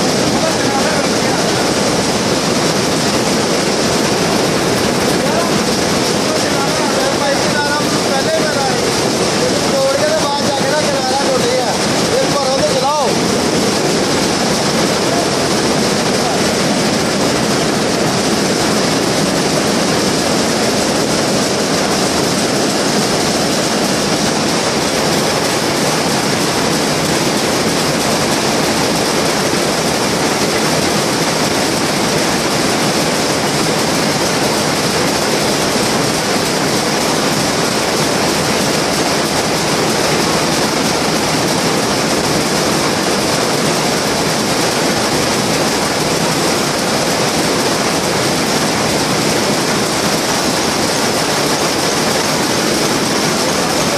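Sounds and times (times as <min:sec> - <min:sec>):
weaving looms clattering: 0:00.0 - 0:53.9.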